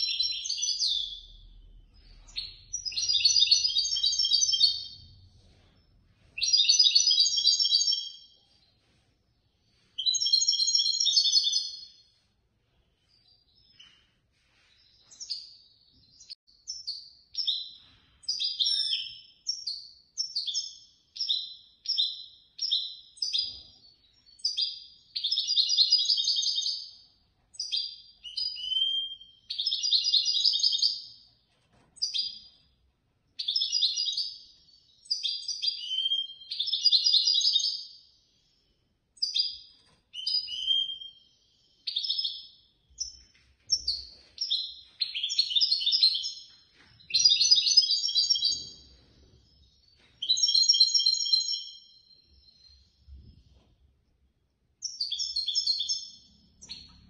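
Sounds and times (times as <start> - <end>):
finch singing: 0.0 - 8.9, 9.8 - 12.1, 13.0 - 31.4, 32.0 - 32.7, 33.3 - 38.5, 39.2 - 53.6, 54.8 - 57.0.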